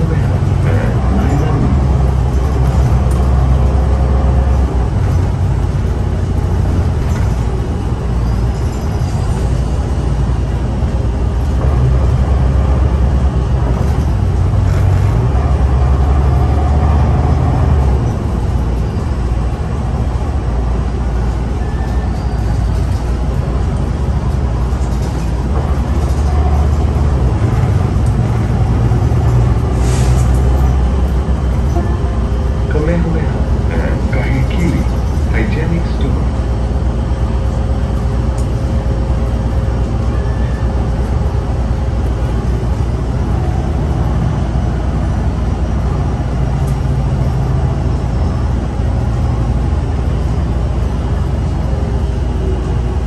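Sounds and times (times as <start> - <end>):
bus engine rumble: 0.0 - 53.0
road noise: 0.0 - 53.0.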